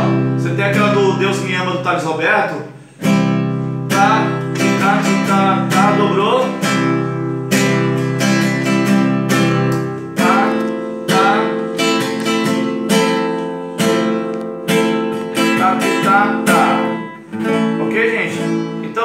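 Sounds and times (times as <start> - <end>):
classical guitar strumming: 0.0 - 19.0.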